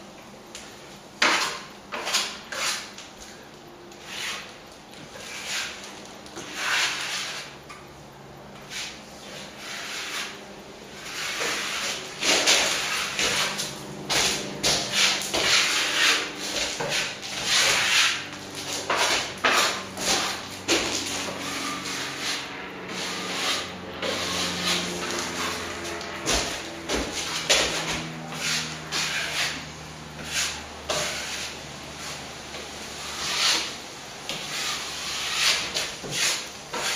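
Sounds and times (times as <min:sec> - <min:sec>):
trowel scraping cement: 0:01.2 - 0:02.9, 0:04.0 - 0:07.6, 0:08.6 - 0:36.9.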